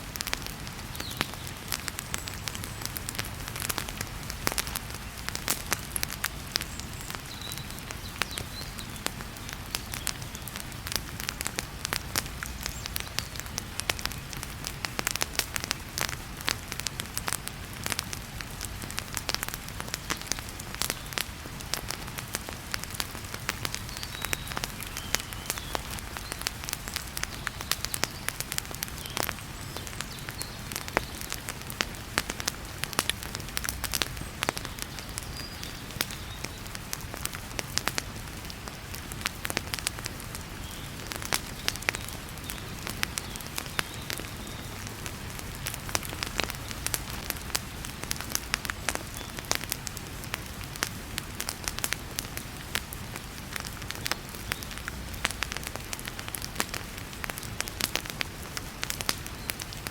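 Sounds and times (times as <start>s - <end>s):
heavy rain hiss: 0.0s - 59.9s
wood fire crackling: 0.0s - 59.9s.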